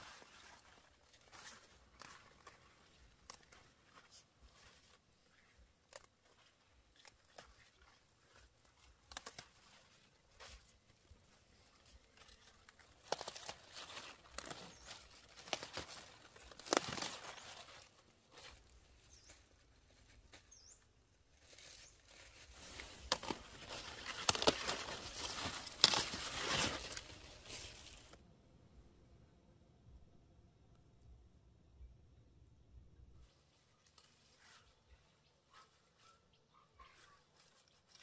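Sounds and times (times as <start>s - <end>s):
leafy greens rustling and snapping: 0.0s - 20.6s, 21.3s - 28.2s, 33.4s - 36.0s, 36.8s - 38.0s.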